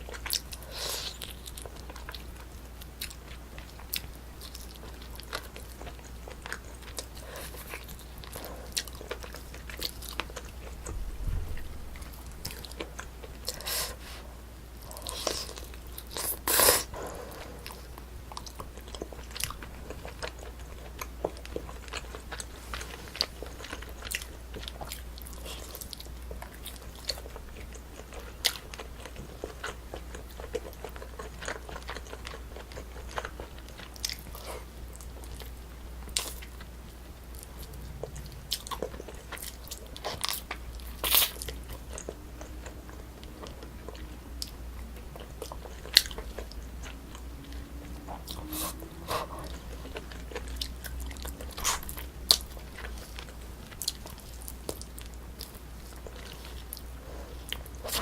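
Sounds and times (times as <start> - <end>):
chewing and biting chicken: 0.0 - 58.0
steady low hum: 0.0 - 58.0.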